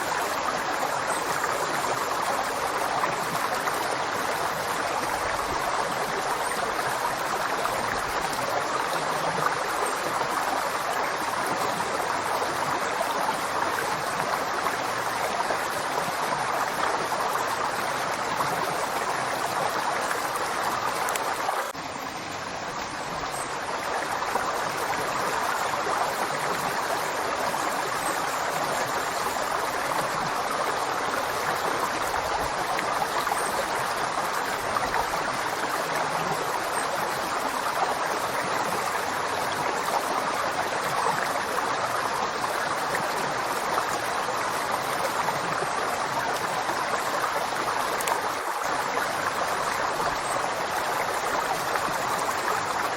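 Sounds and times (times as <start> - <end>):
river water flowing: 0.0 - 52.9.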